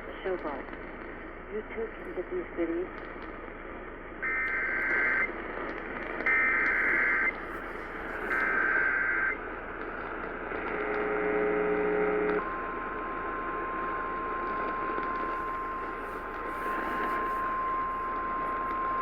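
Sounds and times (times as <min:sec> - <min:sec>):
radio hiss: 0:00.0 - 0:19.0.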